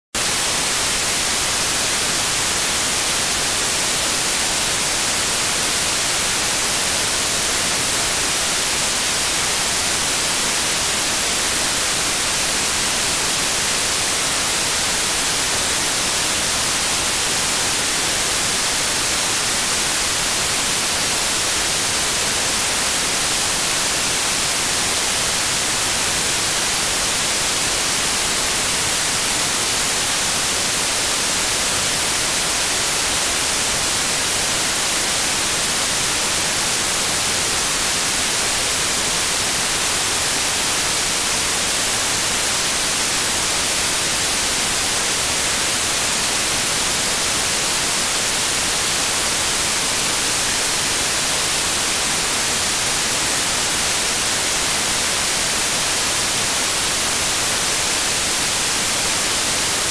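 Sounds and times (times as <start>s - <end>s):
white noise hiss: 0.2s - 59.9s.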